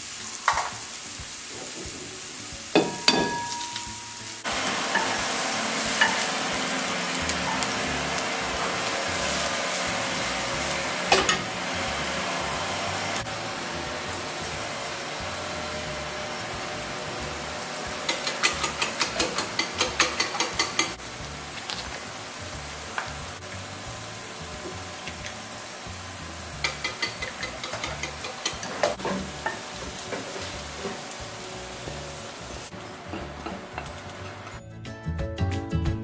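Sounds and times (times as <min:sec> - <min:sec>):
vegetables sizzling in a pan: 0:00.0 - 0:34.6.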